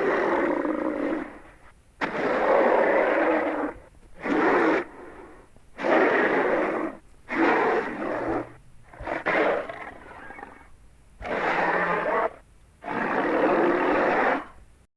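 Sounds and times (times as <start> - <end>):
rough breathy dinosaur roars: 2.1 - 14.6.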